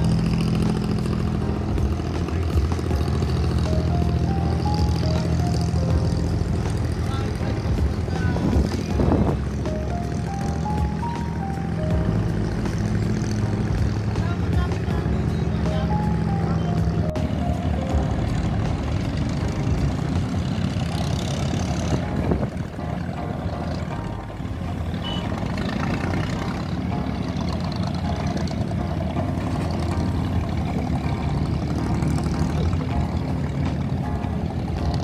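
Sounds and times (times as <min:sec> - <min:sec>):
boat engine humming: 0:00.0 - 0:35.0
water and wind noise: 0:00.0 - 0:35.0.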